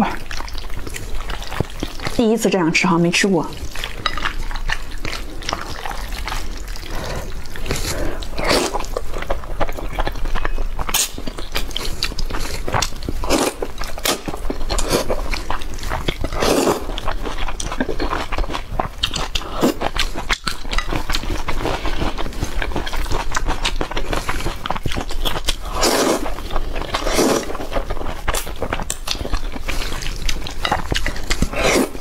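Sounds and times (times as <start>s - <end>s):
biting and chewing food: 0.0s - 2.6s, 3.5s - 32.0s.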